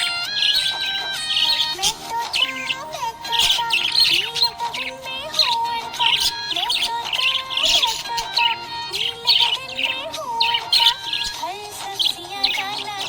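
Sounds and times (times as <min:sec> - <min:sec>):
budgerigar chirping: 0:00.0 - 0:13.0
melodic music: 0:00.0 - 0:13.0.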